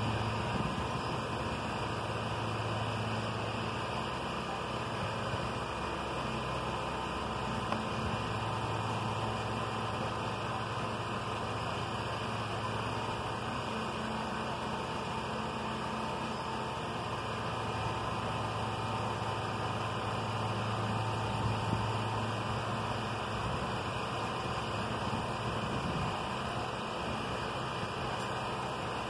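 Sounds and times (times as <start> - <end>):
steady engine hum: 0.0 - 29.0.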